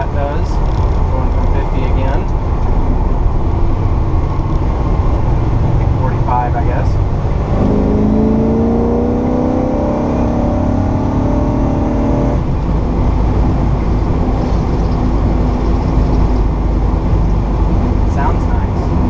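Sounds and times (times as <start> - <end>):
road rumble: 0.0 - 19.0
car engine accelerating: 0.4 - 19.0.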